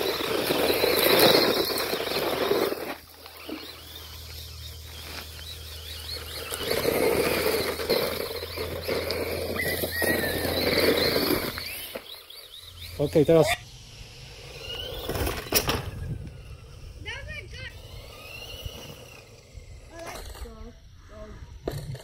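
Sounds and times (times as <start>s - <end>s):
tyres skidding on gravel: 0.0s - 20.5s
electric motor whining: 0.0s - 22.0s.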